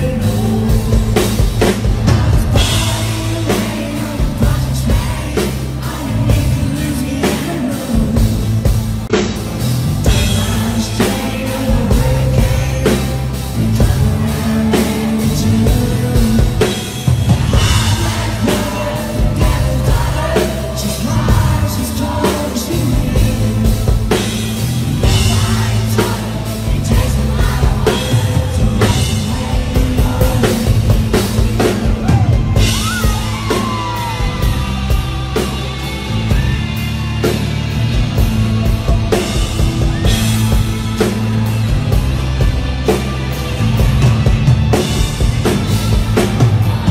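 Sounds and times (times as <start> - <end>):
male lead vocal: 0.0 - 9.2, 9.9 - 37.4, 45.4 - 46.9
live rock band: 0.0 - 46.9.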